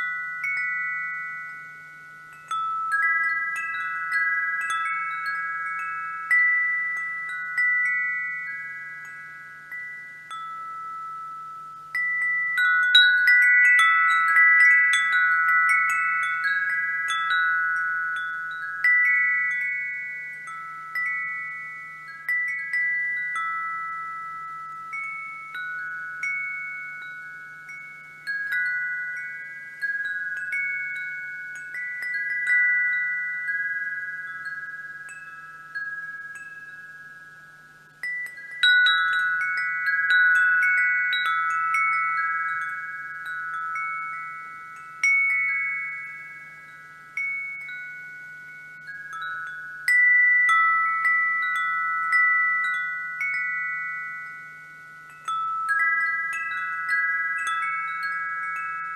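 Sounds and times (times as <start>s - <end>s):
wind chimes ringing: 0.0s - 58.9s.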